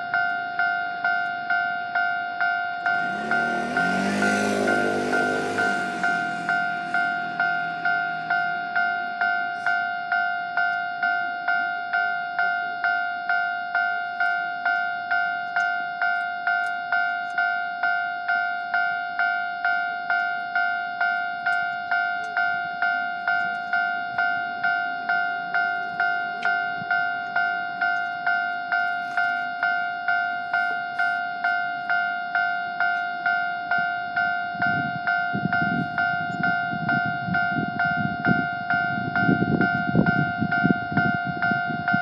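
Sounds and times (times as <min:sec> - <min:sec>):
level crossing warning bell: 0:00.0 - 0:42.0.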